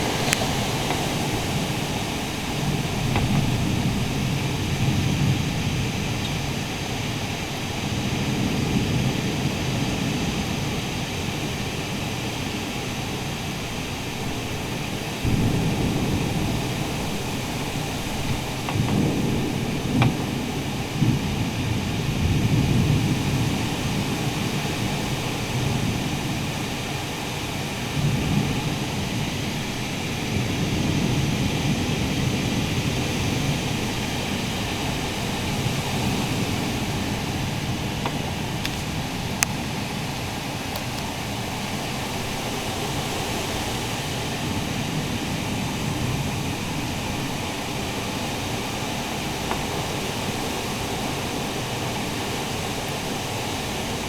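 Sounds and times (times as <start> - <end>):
strong wind gusting: 0.0 - 54.0.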